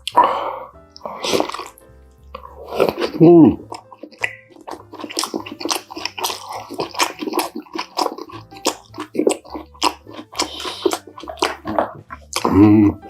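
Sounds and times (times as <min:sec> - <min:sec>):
mouth smacks and clicks: 0:00.0 - 0:00.3, 0:00.9 - 0:13.0
wet chewing: 0:00.0 - 0:13.0.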